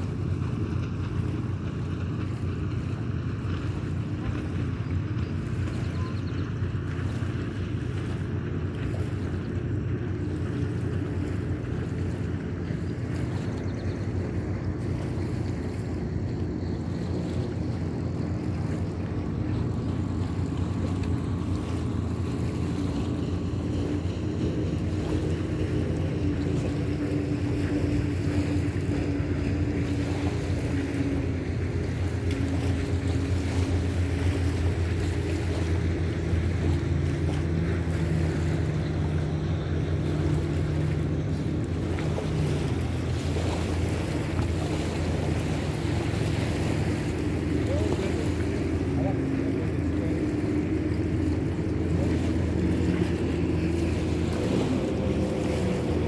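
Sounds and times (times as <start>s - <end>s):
motorboat engine drone: 0.0s - 56.0s.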